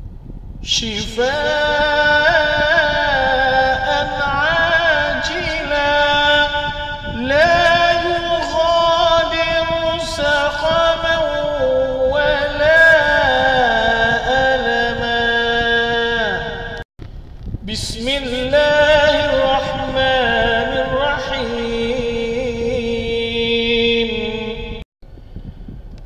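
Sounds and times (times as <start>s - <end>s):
man chanting recitation: 0.6s - 16.8s, 17.6s - 24.8s.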